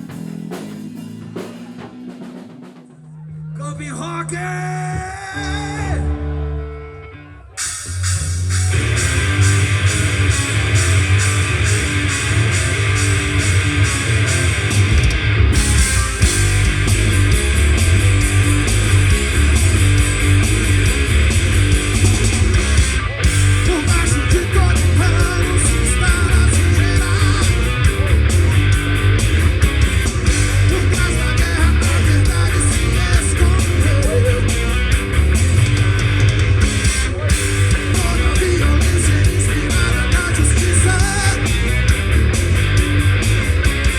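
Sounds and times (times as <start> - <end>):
distorted electric guitars strumming: 0.0 - 2.9, 4.4 - 43.9
punk rock band playing: 0.0 - 3.5, 4.3 - 43.9.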